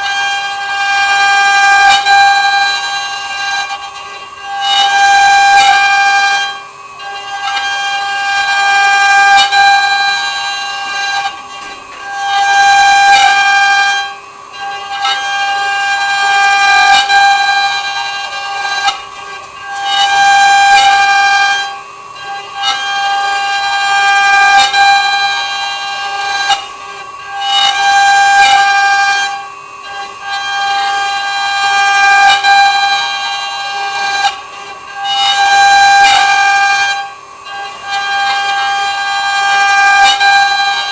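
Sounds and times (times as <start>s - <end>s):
router high whine: 0.0s - 40.9s.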